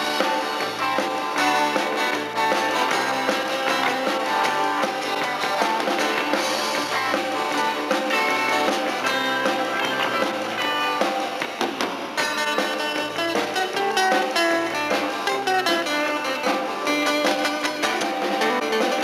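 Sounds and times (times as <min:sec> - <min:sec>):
country rock band instrumental: 0:00.0 - 0:19.0.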